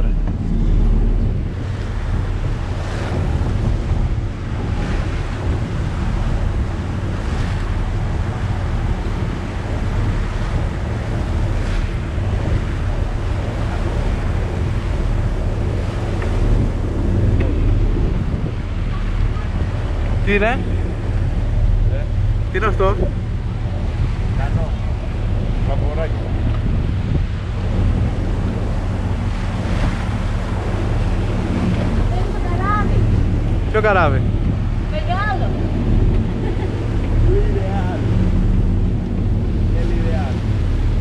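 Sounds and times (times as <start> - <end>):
boat engine drone: 0.0 - 41.0
water rushing along hull: 0.0 - 41.0
wind buffeting microphone: 0.0 - 41.0.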